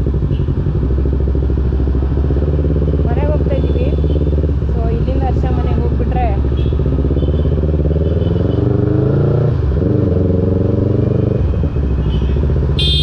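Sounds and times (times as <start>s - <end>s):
motorcycle accelerating: 0.0s - 13.0s.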